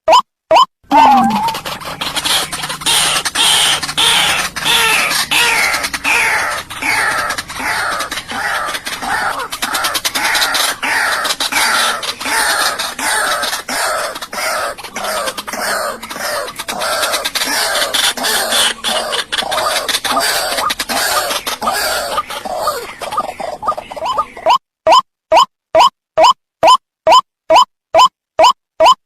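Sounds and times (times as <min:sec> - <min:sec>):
waterhen calling: 0:00.9 - 0:24.6.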